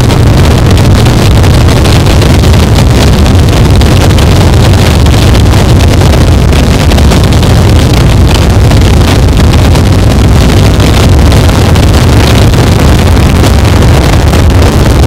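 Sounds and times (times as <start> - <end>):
distorted electronic noise: 0.0 - 15.0.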